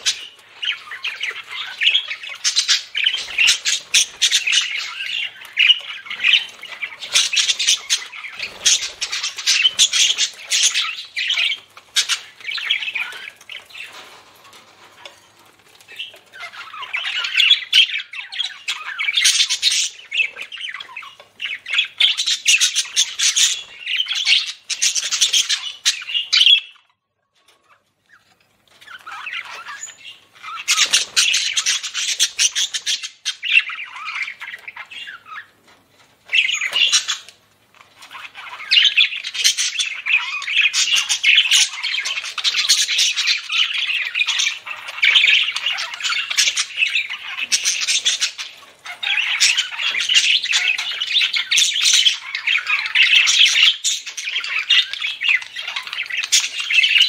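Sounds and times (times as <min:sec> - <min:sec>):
budgerigars chattering and chirping: 0:00.0 - 0:26.9, 0:27.5 - 0:57.0.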